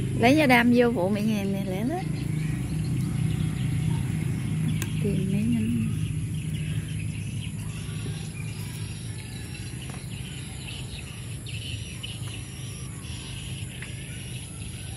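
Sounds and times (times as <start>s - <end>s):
low rumble: 0.0s - 12.6s
birds chirping: 0.0s - 14.9s
high insect drone: 0.0s - 14.9s.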